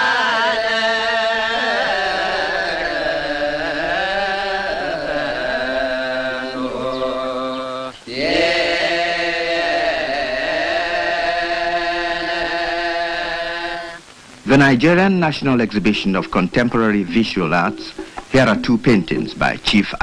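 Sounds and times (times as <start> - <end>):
sung chanting: 0.0 - 20.0.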